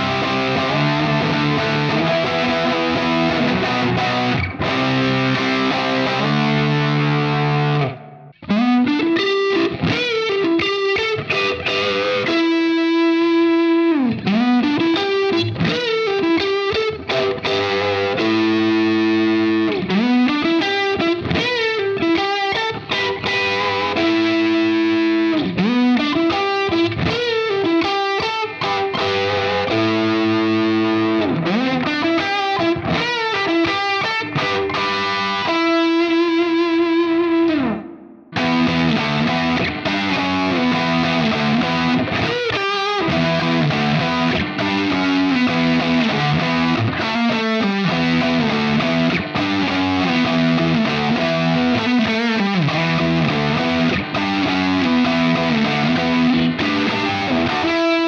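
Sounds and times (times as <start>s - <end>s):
overdriven electric guitar: 0.0s - 58.0s.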